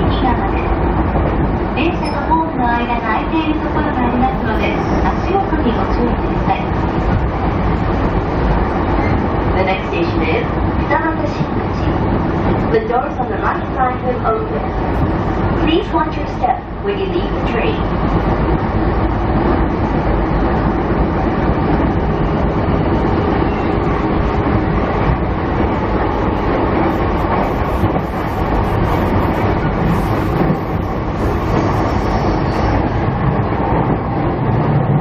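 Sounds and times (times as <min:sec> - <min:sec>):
rumble of wheels on rail: 0:00.0 - 0:35.0.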